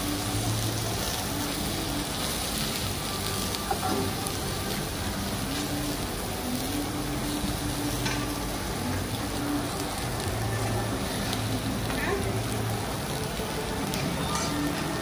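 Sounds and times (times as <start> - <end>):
omelette sizzling in a pan: 0.0 - 15.0.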